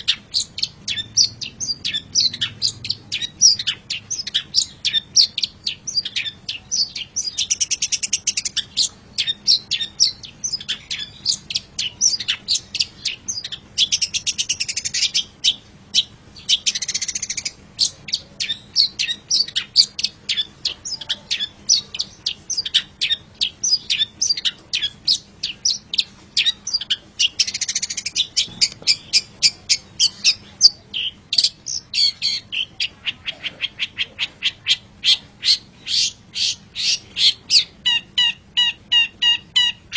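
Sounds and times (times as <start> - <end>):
bird rapid trills: 0.0 - 39.9
shrike chattering song: 0.0 - 39.9.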